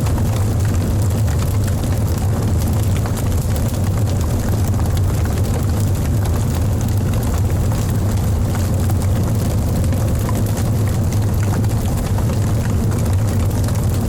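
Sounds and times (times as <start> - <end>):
fire roaring: 0.0 - 14.0
logs crackling and popping: 0.0 - 14.0.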